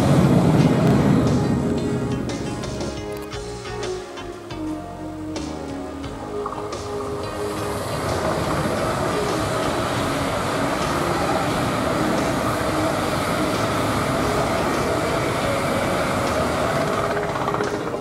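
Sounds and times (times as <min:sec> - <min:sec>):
train carriages rolling past: 0:00.0 - 0:03.8, 0:06.1 - 0:18.0.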